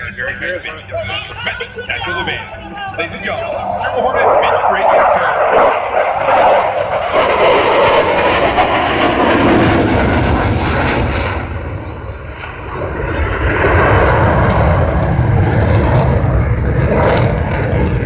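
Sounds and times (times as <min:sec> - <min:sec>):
fighter jet engine: 0:00.0 - 0:18.0.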